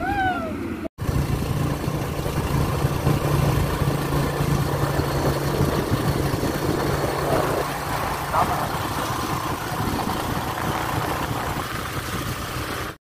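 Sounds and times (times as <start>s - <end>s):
constant rushing noise: 0.0s - 13.0s
motorcycle engine running: 0.7s - 13.0s.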